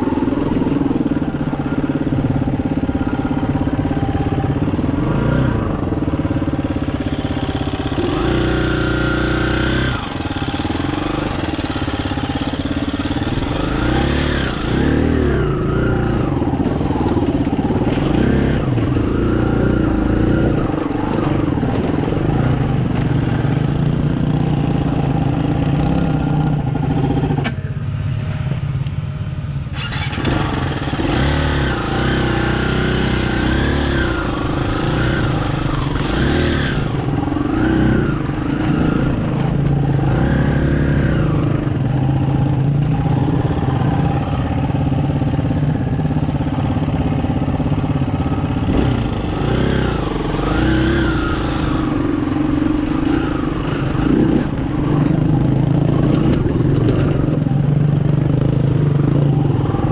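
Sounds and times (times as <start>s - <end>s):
dirt bike engine revving: 0.0s - 27.4s, 29.7s - 45.0s, 48.4s - 59.9s.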